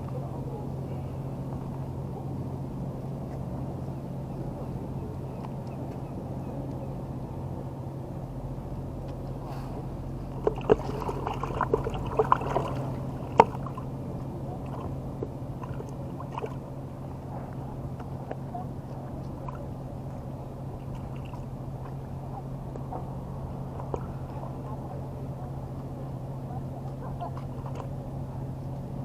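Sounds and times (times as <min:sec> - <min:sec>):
low mechanical hum: 0:00.0 - 0:29.0
water sounds: 0:00.0 - 0:29.0.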